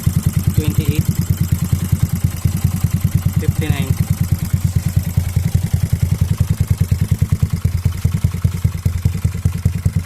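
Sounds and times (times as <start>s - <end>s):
scooter engine idling: 0.0s - 10.0s.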